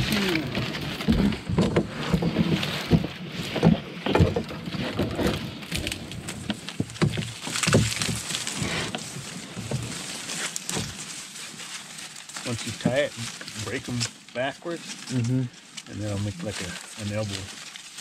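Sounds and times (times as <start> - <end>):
rope dragged through stalks: 0.0 - 18.0
dry stalks crackling and breaking: 2.4 - 18.0.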